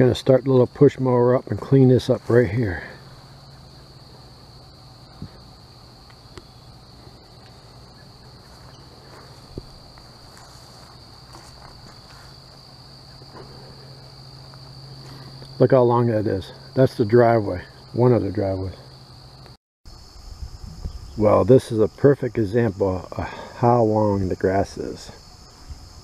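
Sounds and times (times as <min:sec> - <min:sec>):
insect chorus chirring: 0:00.0 - 0:26.0.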